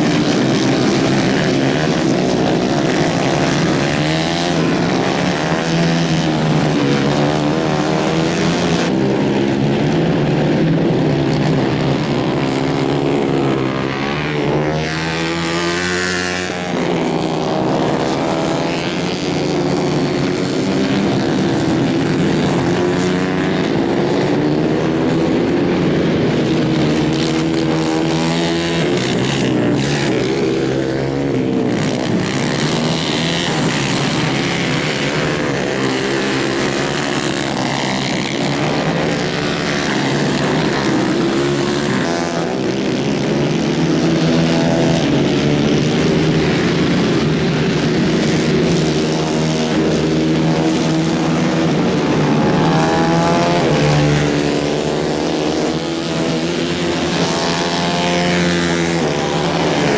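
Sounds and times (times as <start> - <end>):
racing kart engines revving: 0.0 - 59.9.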